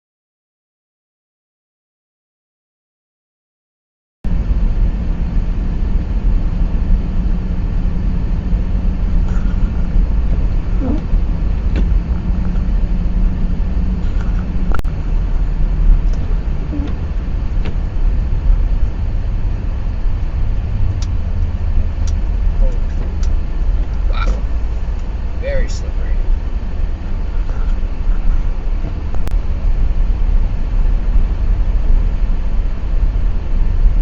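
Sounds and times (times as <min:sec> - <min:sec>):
car driving on snow: 0:04.3 - 0:34.0.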